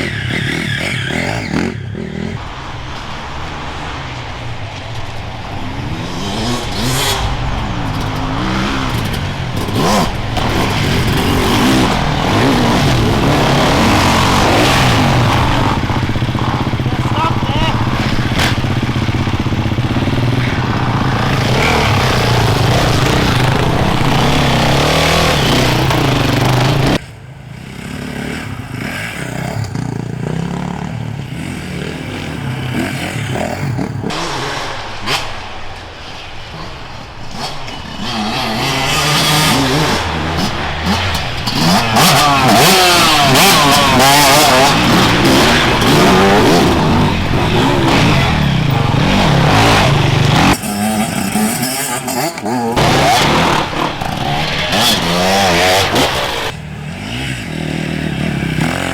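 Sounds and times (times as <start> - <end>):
distant motorcycle engines: 0.0 - 58.9
motorcycle approaching and revving: 0.0 - 58.9
motorcycle engine running: 4.8 - 34.5, 38.3 - 58.9.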